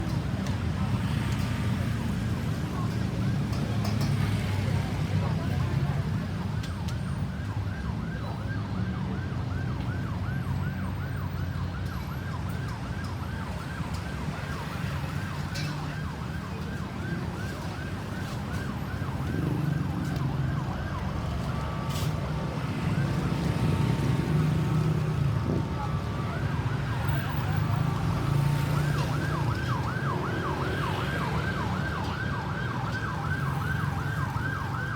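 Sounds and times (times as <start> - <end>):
low engine and traffic rumble: 0.0 - 34.9
ambulance siren yelping: 5.3 - 34.9
steady siren tone: 6.9 - 34.9.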